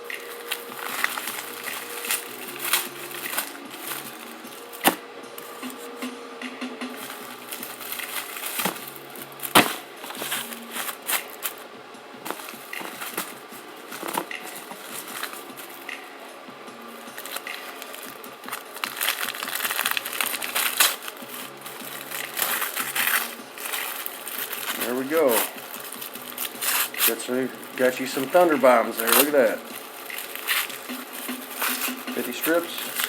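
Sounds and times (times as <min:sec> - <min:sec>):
wrapping crinkling and tearing: 0:00.0 - 0:05.9, 0:07.0 - 0:11.6, 0:12.3 - 0:16.1, 0:17.1 - 0:33.0.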